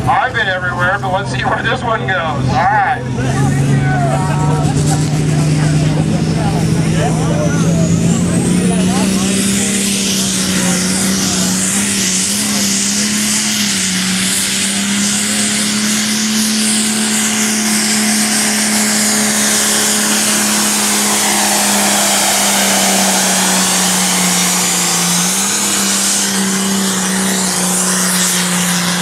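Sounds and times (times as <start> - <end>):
tractor engine at full throttle: 0.0 - 29.0.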